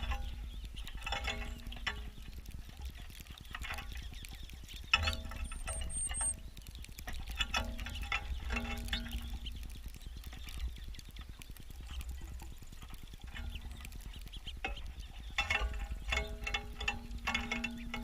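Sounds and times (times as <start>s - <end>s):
birds pecking at feeder: 0.0s - 18.0s
wind buffeting camera: 0.0s - 18.0s.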